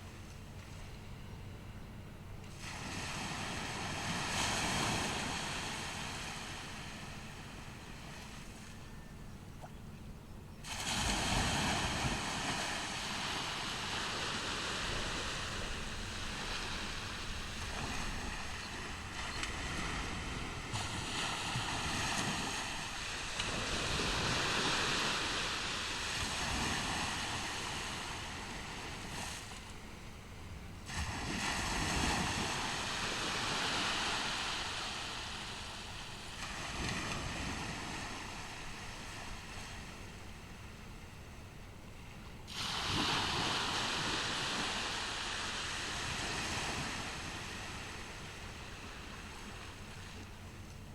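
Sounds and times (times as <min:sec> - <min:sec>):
ocean waves breaking on beach: 0:00.0 - 0:01.5, 0:02.3 - 0:09.9, 0:10.6 - 0:50.9.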